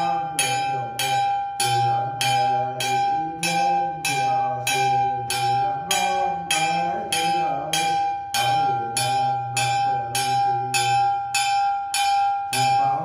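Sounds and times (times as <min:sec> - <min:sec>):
metal bell struck: 0:00.0 - 0:13.0.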